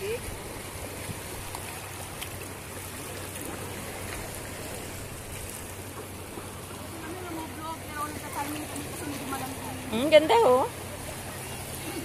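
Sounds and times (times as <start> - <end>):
seawater washing over shore: 0.0 - 12.0.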